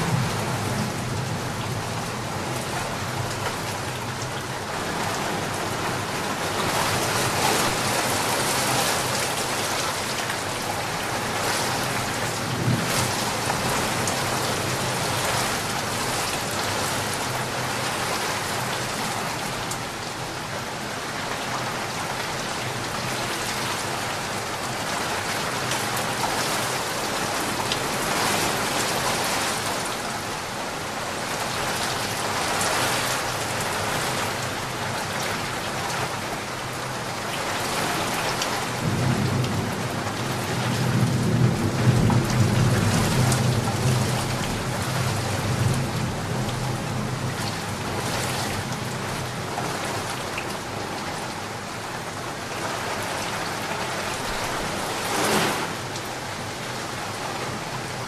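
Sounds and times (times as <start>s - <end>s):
heavy rain on a flooded street: 0.0s - 58.0s.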